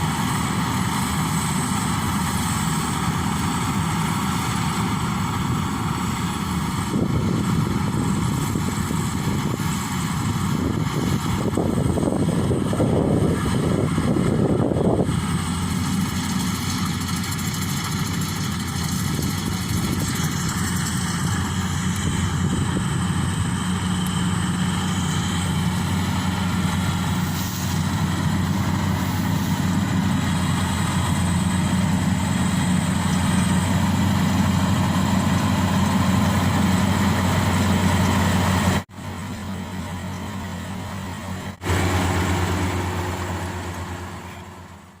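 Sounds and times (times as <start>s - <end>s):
combine harvester engine droning: 0.0s - 45.0s.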